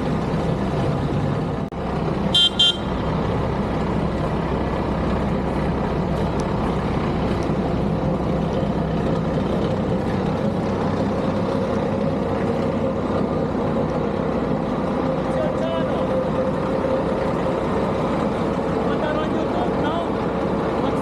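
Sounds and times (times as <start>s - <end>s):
diesel machinery engine hum: 0.0s - 21.0s.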